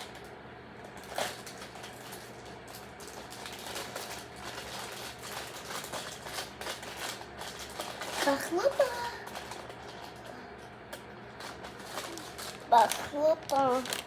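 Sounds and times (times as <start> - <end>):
plastic packet crinkling: 0.9 - 10.3, 11.3 - 14.0.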